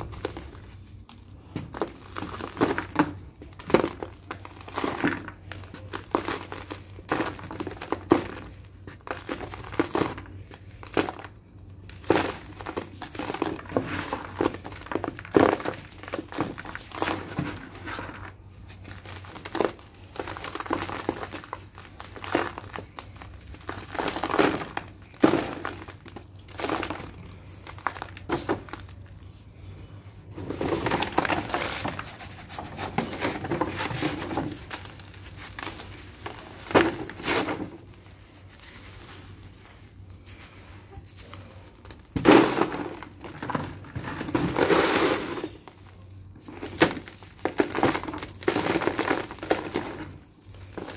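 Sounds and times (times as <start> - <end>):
hardened cement lumps crunching: 0.0 - 50.9.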